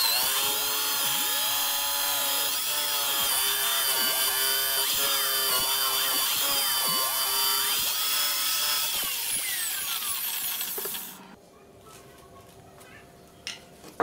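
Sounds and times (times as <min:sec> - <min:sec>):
drill press boring into wood: 0:00.0 - 0:11.2.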